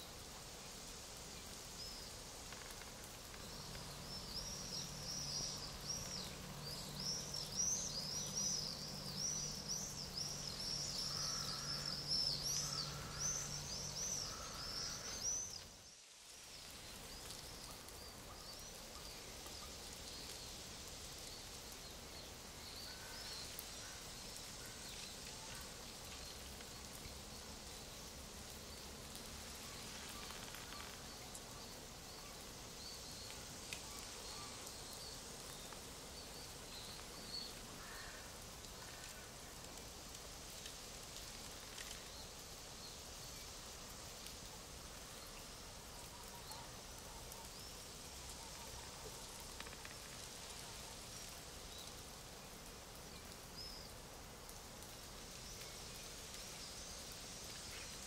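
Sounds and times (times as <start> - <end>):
forest ambience hiss: 0.0 - 58.0
small birds chirping: 0.0 - 58.0.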